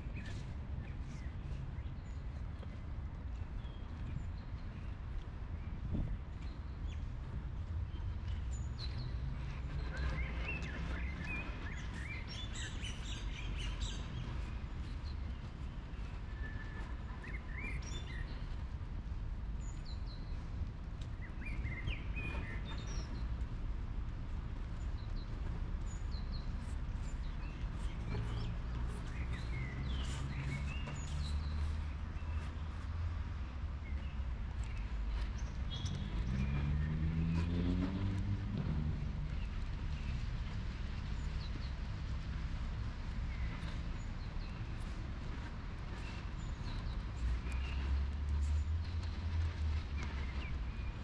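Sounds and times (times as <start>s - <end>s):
songbirds chirping: 0.0s - 51.0s.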